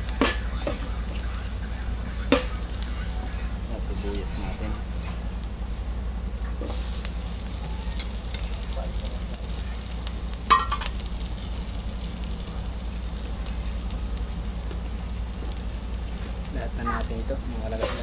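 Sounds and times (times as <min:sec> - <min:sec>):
onion sizzling in hot oil: 0:00.0 - 0:18.0.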